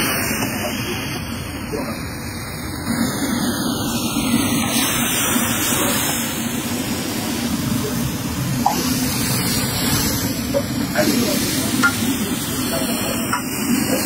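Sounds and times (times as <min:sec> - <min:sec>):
gas flame: 0:00.0 - 0:14.0
vegetables sizzling in a wok: 0:02.7 - 0:14.0.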